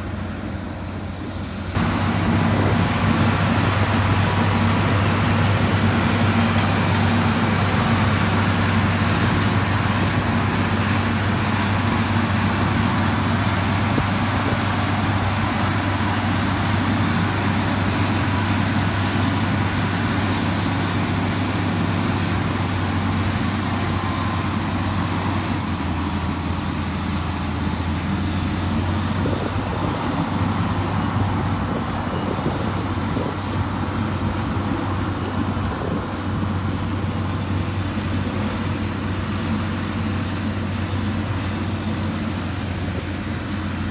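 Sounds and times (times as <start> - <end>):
heavy machinery diesel engine: 0.0 - 43.9.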